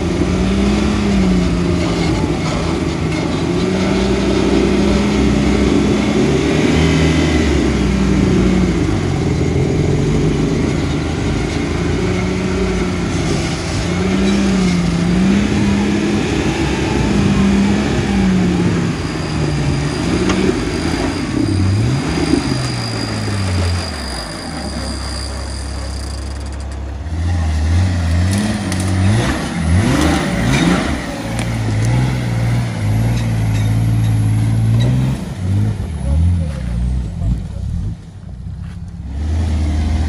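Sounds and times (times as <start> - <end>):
diesel engine revving under load: 0.0 - 26.4, 27.0 - 38.0, 39.0 - 40.0.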